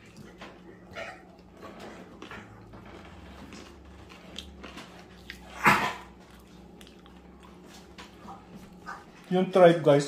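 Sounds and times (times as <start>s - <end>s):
person chewing: 0.0s - 9.3s.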